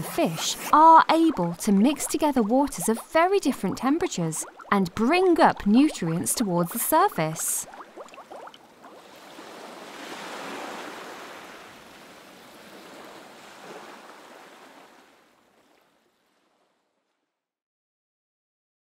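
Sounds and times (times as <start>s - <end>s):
ocean waves washing: 0.0s - 15.7s.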